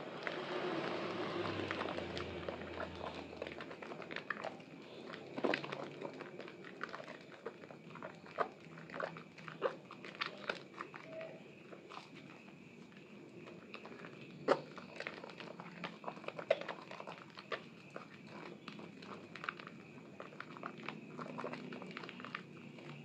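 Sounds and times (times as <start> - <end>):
wet soap squelching: 0.0 - 23.0.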